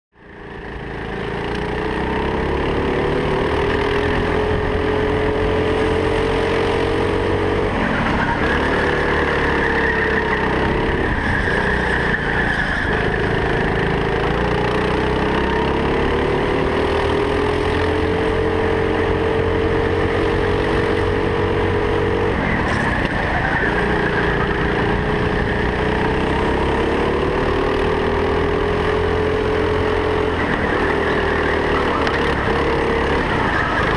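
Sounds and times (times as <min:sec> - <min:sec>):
go-kart engine whine: 0:00.2 - 0:33.9.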